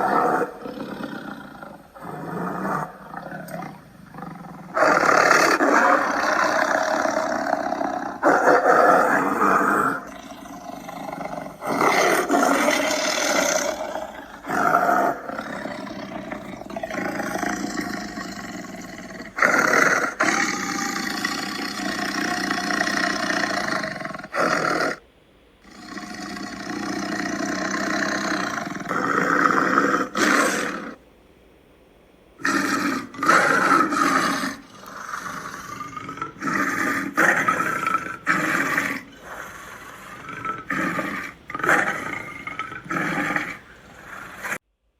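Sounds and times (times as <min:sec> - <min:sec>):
big cats roaring: 0:00.0 - 0:25.0, 0:25.6 - 0:31.0, 0:32.4 - 0:44.6.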